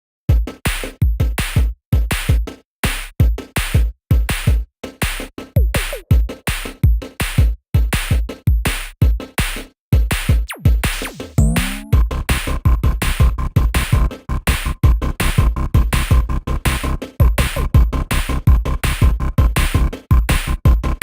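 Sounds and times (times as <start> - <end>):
drum machine beat: 0.3 - 21.0.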